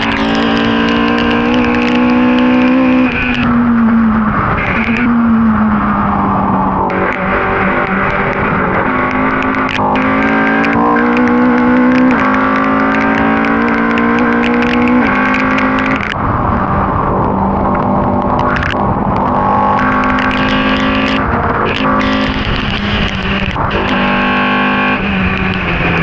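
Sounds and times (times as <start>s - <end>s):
race car engine accelerating: 0.0s - 26.0s.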